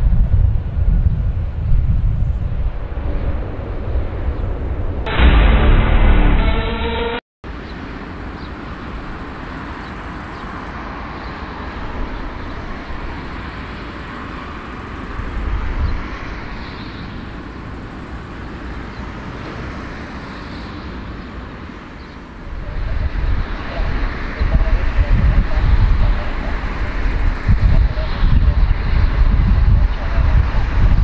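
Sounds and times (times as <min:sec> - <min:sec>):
aircraft engines roaring: 0:01.6 - 0:31.0.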